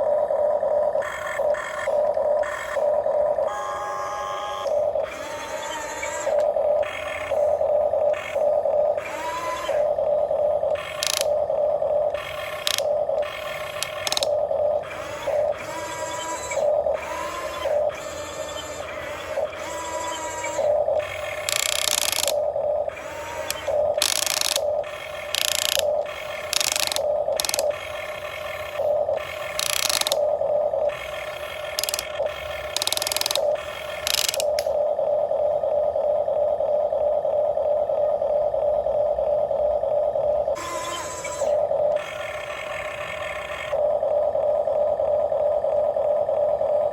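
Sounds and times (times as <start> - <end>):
toy excavator motors whirring: 0.0 - 34.8, 40.5 - 43.8
steady mid-pitched hum: 0.0 - 46.9.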